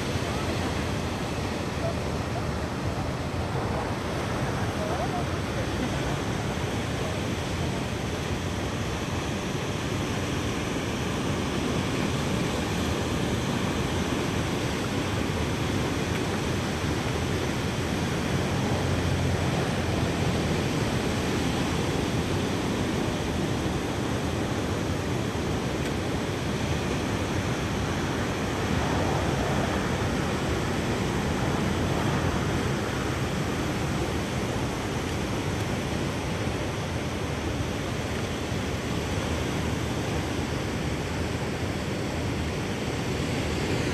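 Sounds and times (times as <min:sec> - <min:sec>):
ocean surf: 0:00.0 - 0:43.9
wind: 0:00.0 - 0:43.9.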